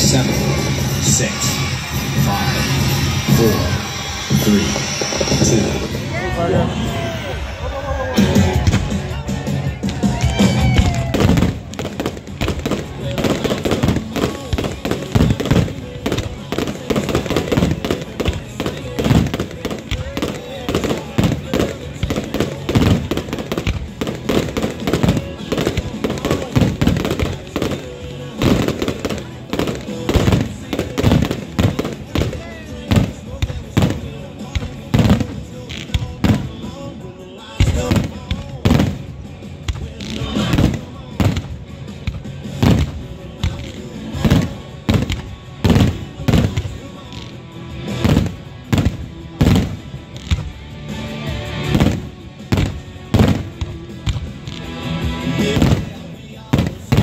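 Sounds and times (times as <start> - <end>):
fireworks bangs and crackles: 0.0 - 57.0
music: 0.0 - 57.0.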